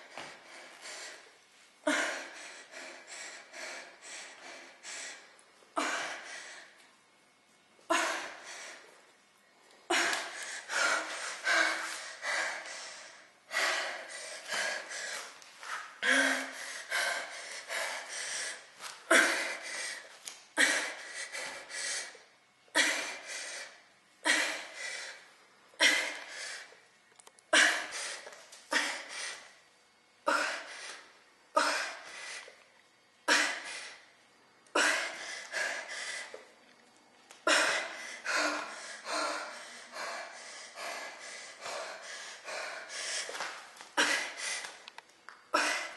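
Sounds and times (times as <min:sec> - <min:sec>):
woman breathing hard: 0:00.0 - 0:07.1, 0:07.8 - 0:09.1, 0:09.8 - 0:26.8, 0:27.5 - 0:32.6, 0:33.2 - 0:36.6, 0:37.4 - 0:44.9, 0:45.5 - 0:45.9.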